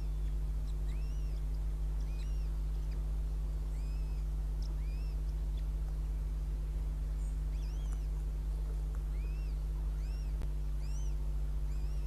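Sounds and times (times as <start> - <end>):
high chirping bird calls: 0.0 - 6.4, 7.1 - 8.2, 9.0 - 12.0
low electrical hum: 0.0 - 12.0.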